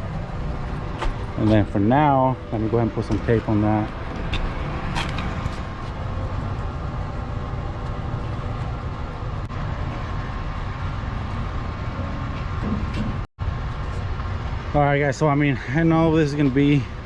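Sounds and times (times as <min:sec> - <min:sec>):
blower motor rumbling and humming: 0:00.0 - 0:17.0.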